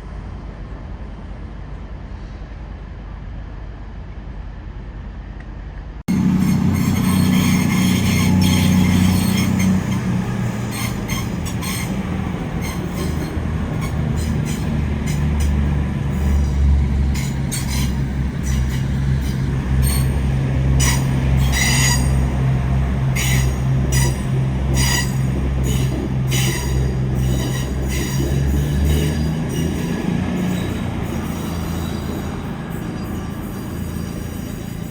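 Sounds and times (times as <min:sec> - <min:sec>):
train engine drone: 0:00.0 - 0:34.9
wheel squeals and clanks: 0:06.1 - 0:22.3, 0:23.2 - 0:34.9.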